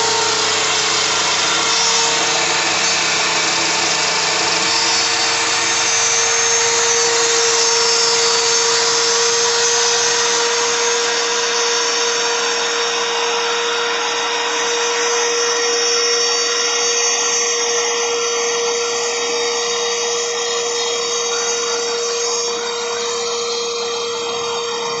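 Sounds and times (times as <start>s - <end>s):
router spindle whining: 0.0s - 25.0s.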